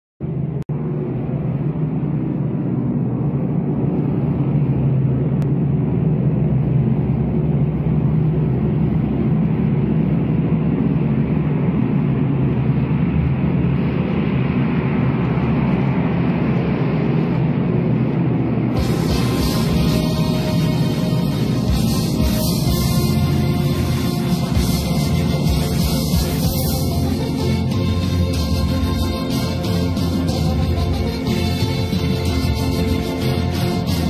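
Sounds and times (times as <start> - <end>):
low rumble with droning hum: 0.2 - 34.0.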